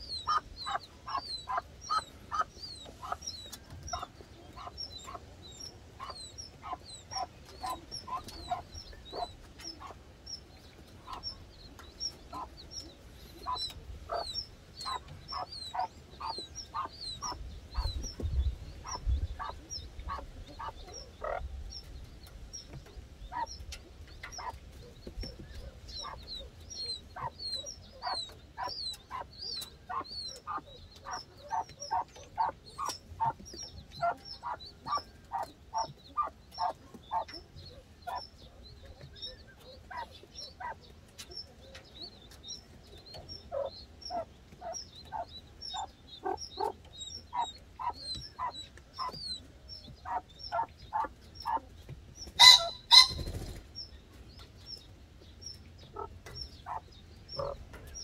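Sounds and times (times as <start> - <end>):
chicks peeping: 0.0 - 58.0
hen pheasant clucking: 0.0 - 58.0.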